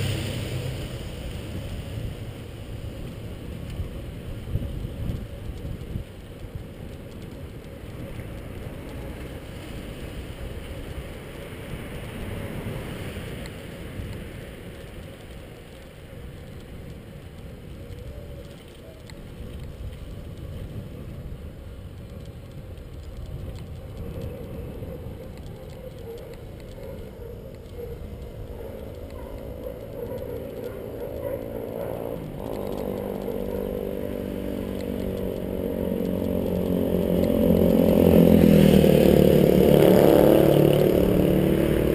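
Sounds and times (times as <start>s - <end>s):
bicycle road noise: 0.0s - 41.9s
wind rumble on microphone: 0.0s - 41.9s.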